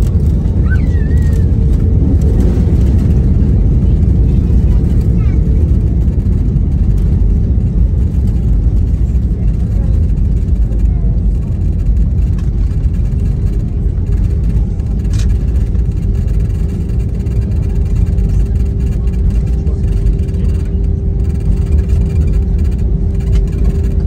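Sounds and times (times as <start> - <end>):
engine and wheel rumble: 0.0 - 24.0
steady humming tone: 0.0 - 24.0.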